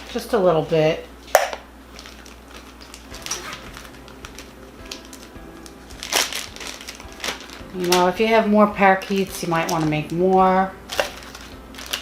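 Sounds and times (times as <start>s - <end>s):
faint background music: 0.0s - 12.0s
freezer bag rustle: 1.8s - 12.0s.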